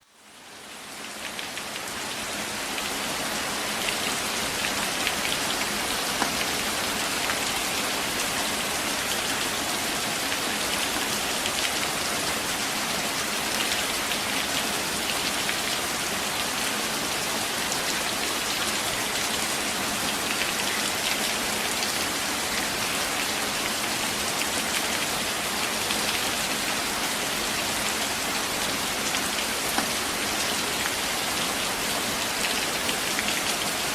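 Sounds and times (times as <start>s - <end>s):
steady rainfall: 0.0s - 33.9s.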